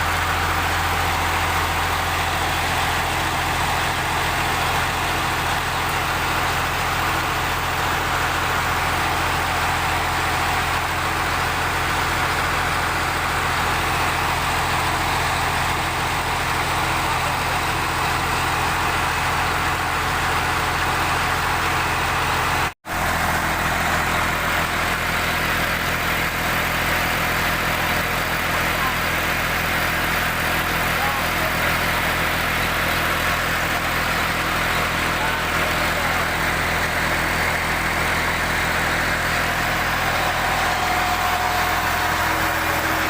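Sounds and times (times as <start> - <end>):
tractor diesel engine idling: 0.0 - 43.0.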